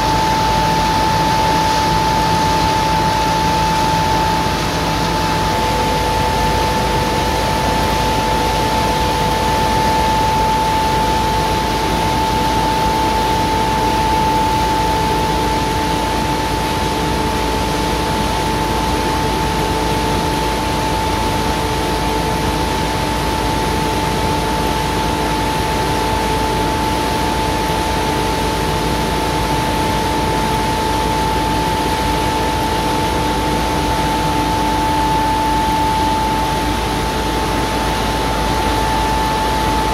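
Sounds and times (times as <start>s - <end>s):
industrial fan running: 0.0s - 39.9s.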